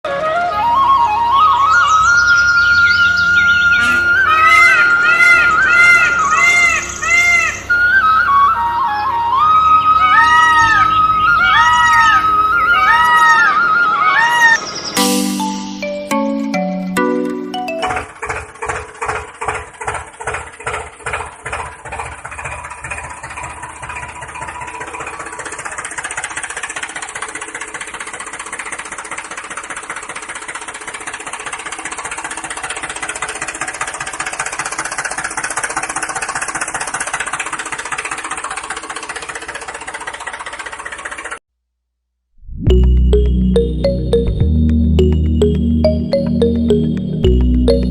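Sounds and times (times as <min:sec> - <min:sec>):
tractor engine chugging: 0:00.2 - 0:13.6, 0:14.4 - 0:41.4, 0:42.7 - 0:47.9.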